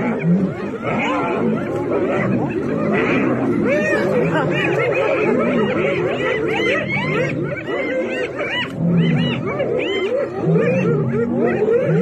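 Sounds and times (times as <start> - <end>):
hyenas calling: 0.0 - 12.0.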